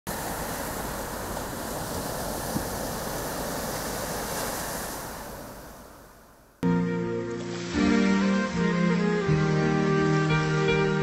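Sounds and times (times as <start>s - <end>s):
ocean surf rushing: 0.1s - 11.0s.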